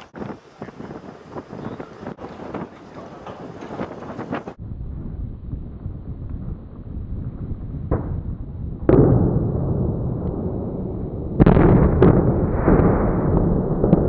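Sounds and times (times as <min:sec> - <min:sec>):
rumbling noise: 0:00.0 - 0:14.0
explosive demolition blasts: 0:01.8 - 0:14.0.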